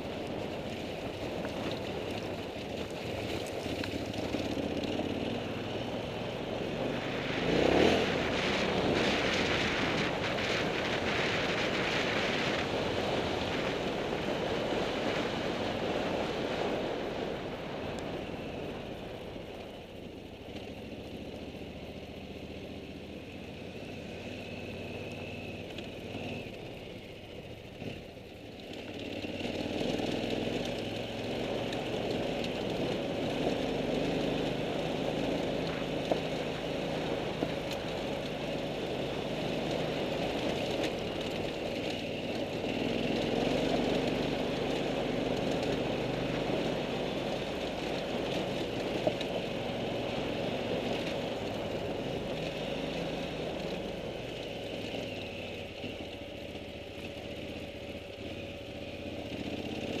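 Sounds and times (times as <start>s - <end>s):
vehicle engine on gravel: 0.0s - 60.0s.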